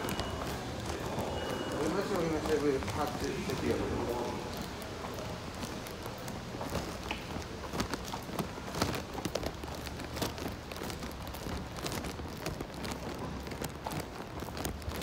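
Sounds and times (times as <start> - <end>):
footsteps on hard floor: 0.0 - 15.0.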